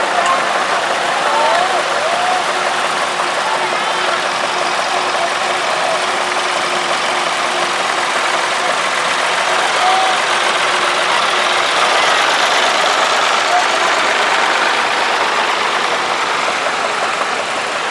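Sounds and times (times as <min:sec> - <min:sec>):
tractor engines running: 0:00.0 - 0:17.9.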